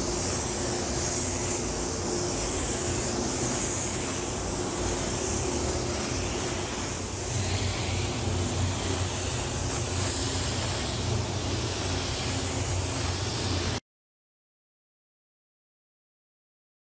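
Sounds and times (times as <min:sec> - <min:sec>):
spray gun hissing: 0:00.0 - 0:13.8.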